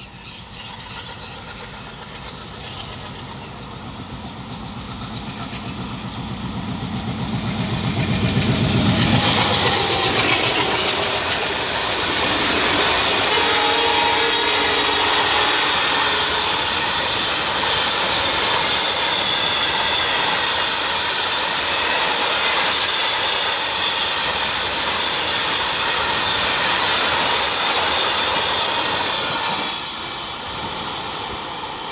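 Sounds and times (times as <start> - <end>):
freight train wheels roaring on rail: 0.0 - 31.9.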